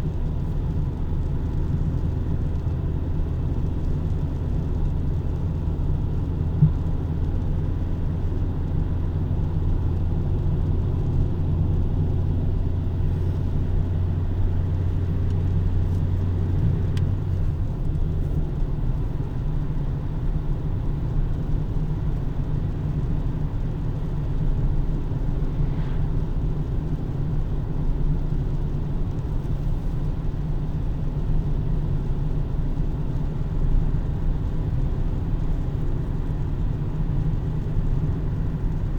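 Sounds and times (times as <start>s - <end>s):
car rumbling on road: 0.0s - 38.9s.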